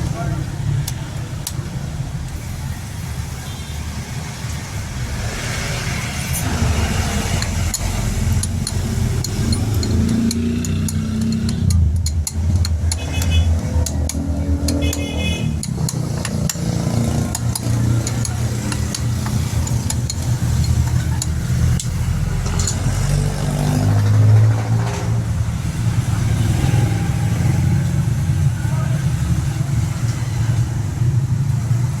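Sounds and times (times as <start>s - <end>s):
vehicle engines passing: 0.0s - 32.0s.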